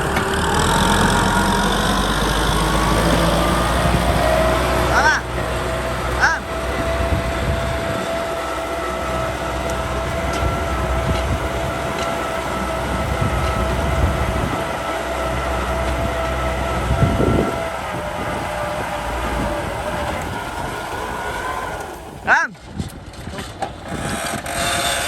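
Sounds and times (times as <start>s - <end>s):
high whine: 0.0s - 25.0s
tractor diesel engine running: 0.0s - 25.0s.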